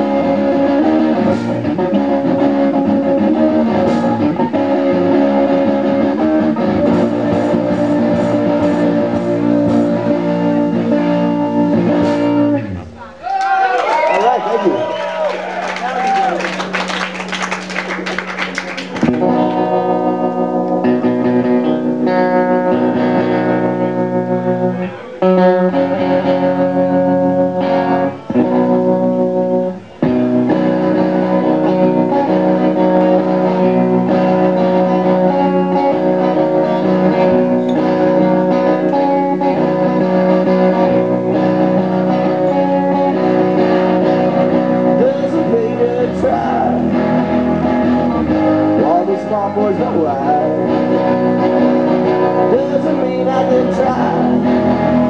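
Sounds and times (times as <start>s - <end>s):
distorted electric guitar riff: 0.0s - 13.3s, 16.6s - 55.0s.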